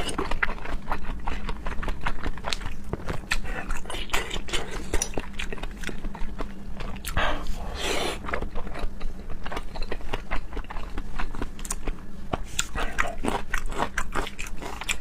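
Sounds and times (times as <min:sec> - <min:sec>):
wet chewing with mouth clicks: 0:00.0 - 0:15.0.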